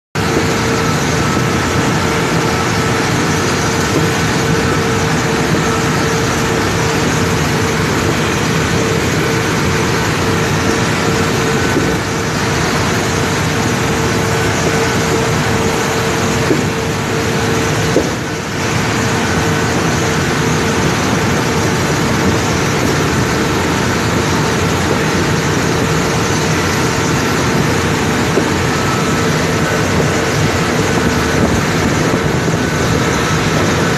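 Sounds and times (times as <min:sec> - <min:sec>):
loud machinery noise: 0:00.2 - 0:33.9
mid-pitched hum: 0:00.2 - 0:33.9.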